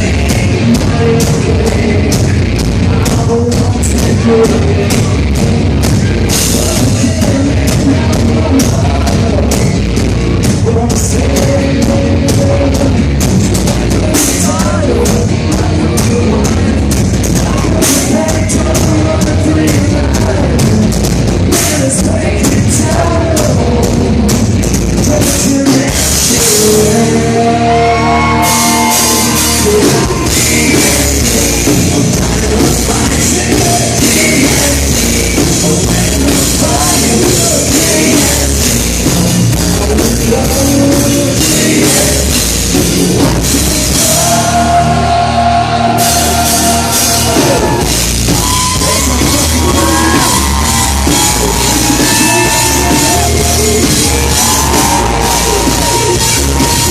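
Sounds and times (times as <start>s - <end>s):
person singing: 0.0s - 5.4s, 6.3s - 56.9s
distorted guitars: 0.0s - 56.9s
drum kit: 0.0s - 56.9s
hard rock band playing loud: 0.0s - 56.9s.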